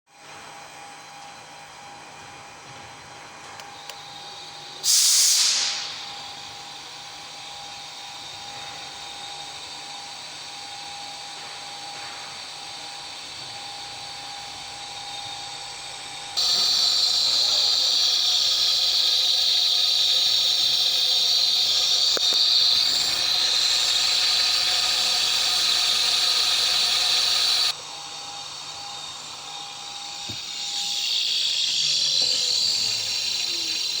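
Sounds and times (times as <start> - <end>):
spindle high whine: 5.6 - 34.0.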